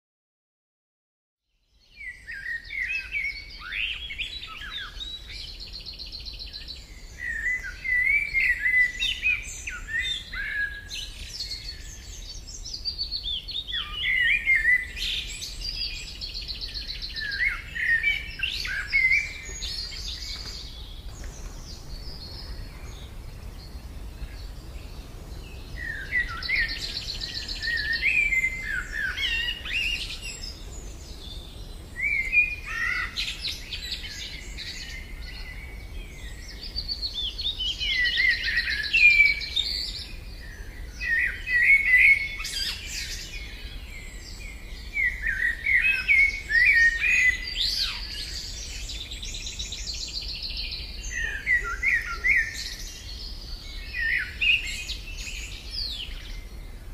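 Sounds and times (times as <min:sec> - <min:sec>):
songbird singing: 0:01.4 - 0:56.9.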